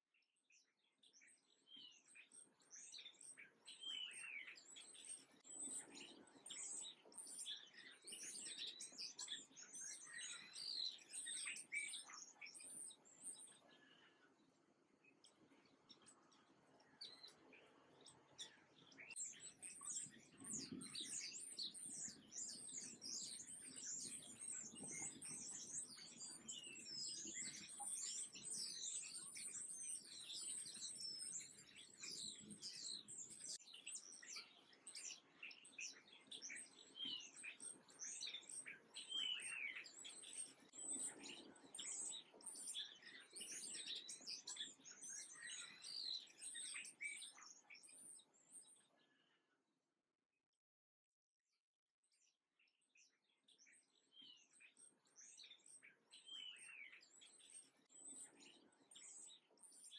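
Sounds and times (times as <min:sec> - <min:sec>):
songbirds chirping chorus: 0:00.0 - 0:49.5, 0:52.1 - 0:59.9.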